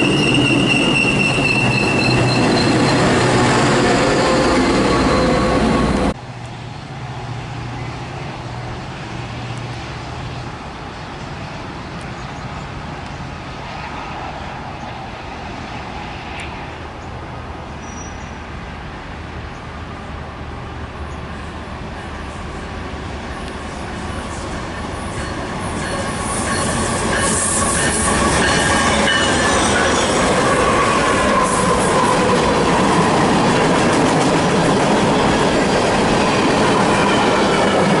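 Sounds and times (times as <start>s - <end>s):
distant diesel trains rumbling: 0.0s - 38.0s
train passing close by: 0.0s - 38.0s.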